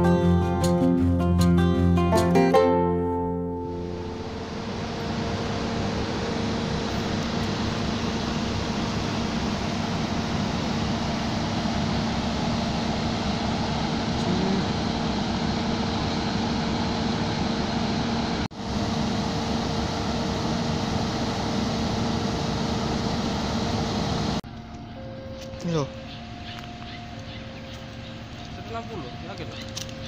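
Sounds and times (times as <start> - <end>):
train diesel engine drone: 0.0 - 30.0.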